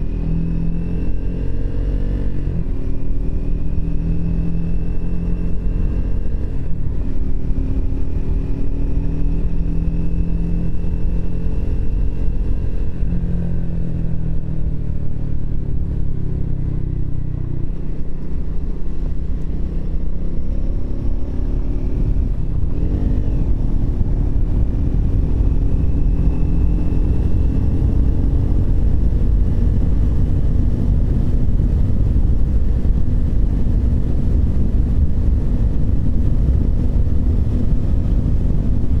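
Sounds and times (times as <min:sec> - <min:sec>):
motorcycle engine slowing and accelerating: 0:00.0 - 0:39.0
wind rumble on microphone: 0:00.0 - 0:39.0.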